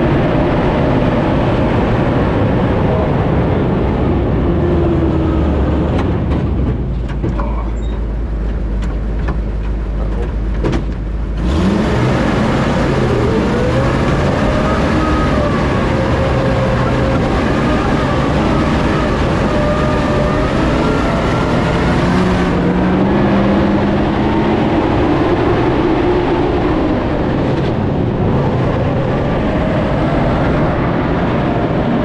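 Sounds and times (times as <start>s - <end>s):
tracked vehicle engine and tracks: 0.0s - 32.0s.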